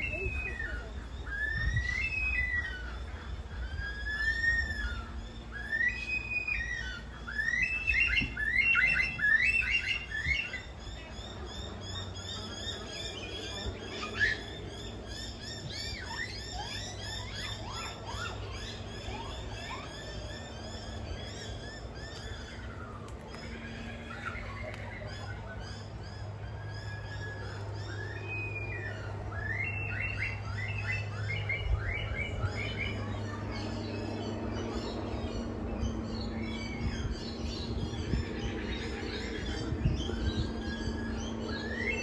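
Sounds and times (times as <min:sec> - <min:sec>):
chorus of high bird chirps: 0:00.0 - 0:42.0
loud whistled bird notes: 0:00.0 - 0:42.0.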